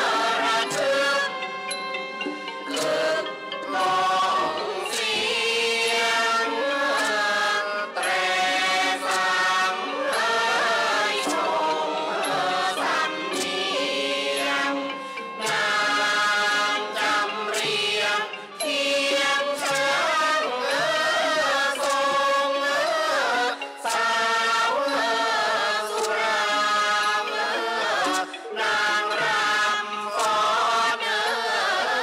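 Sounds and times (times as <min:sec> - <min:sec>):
singers chanting in chorus: 0:00.0 - 0:01.8, 0:02.6 - 0:32.0
percussion ensemble strokes: 0:00.0 - 0:32.0.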